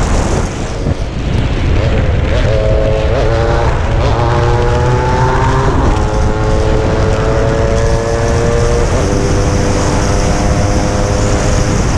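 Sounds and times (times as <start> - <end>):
two-stroke engine accelerating: 1.6 - 11.9.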